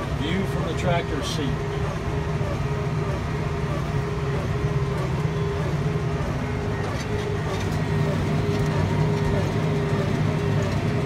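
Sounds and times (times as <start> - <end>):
steady whine: 0.0 - 11.0
tractor engine drone: 0.0 - 11.0.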